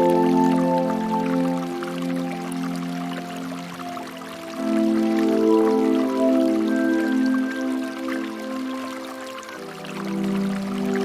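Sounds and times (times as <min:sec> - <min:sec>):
ambient music with held chords: 0:00.0 - 0:11.0
water trickling: 0:00.0 - 0:11.0.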